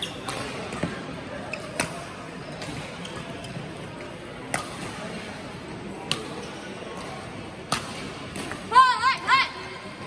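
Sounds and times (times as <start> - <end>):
background noise in hall: 0.0 - 10.0.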